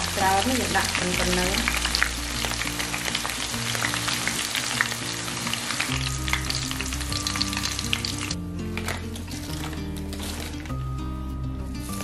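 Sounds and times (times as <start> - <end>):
chilies deep-frying in oil: 0.0 - 10.7.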